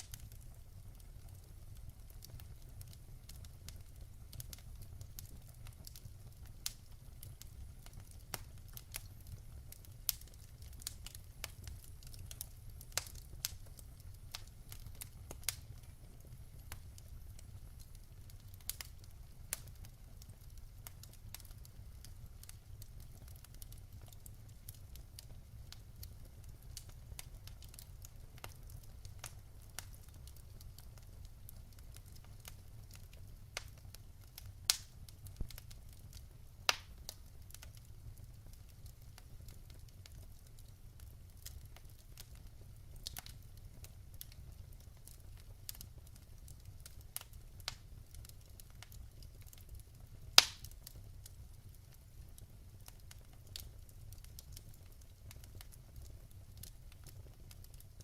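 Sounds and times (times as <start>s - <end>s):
fire crackles and pops: 0.0s - 58.0s
fire low rumble: 0.0s - 58.0s.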